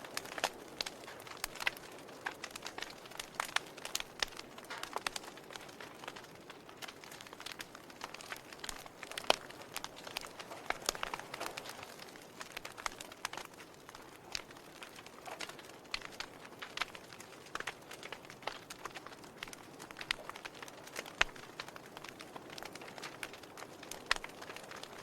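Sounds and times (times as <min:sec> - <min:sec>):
log fire crackling and popping: 0:00.0 - 0:25.0
soft fire hiss: 0:00.0 - 0:25.0.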